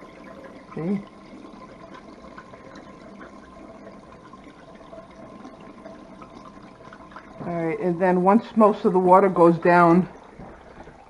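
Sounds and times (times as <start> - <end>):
water pouring into sink drain: 0.0 - 11.0.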